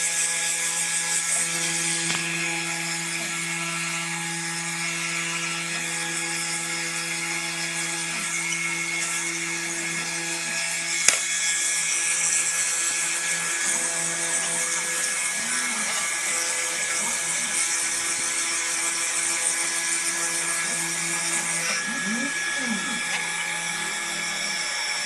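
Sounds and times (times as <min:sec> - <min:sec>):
router spindle whine: 0:00.0 - 0:25.0.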